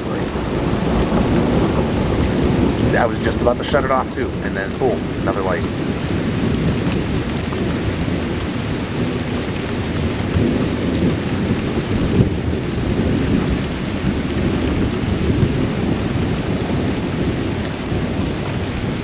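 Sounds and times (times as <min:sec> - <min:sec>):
rolling thunder: 0:00.0 - 0:19.0
steady rain: 0:00.0 - 0:19.0.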